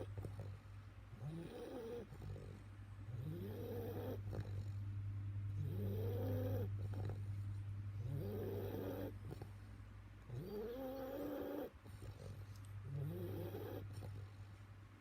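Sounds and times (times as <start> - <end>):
dog snoring: 0.0 - 4.8, 5.5 - 9.7, 10.3 - 14.5
steady low hum: 0.0 - 15.0.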